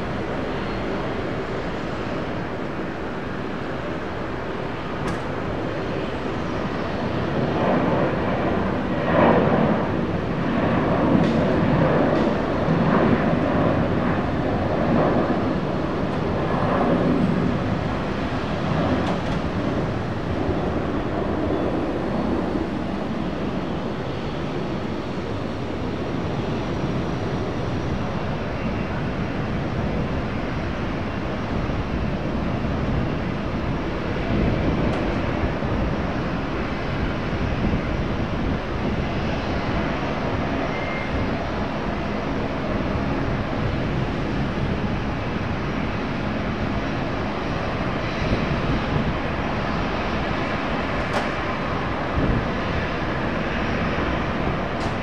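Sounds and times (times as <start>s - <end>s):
jet airliner engines rumbling: 0.0s - 55.0s.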